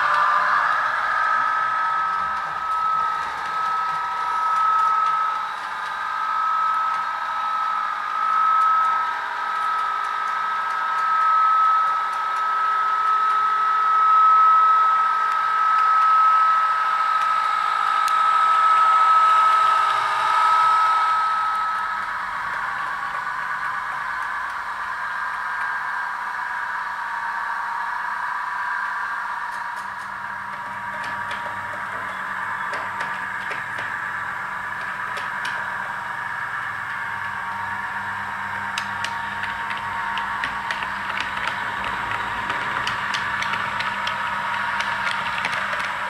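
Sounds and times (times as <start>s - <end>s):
diesel railcar engine from small speaker: 0.0s - 46.0s
steady high whine: 0.0s - 46.0s.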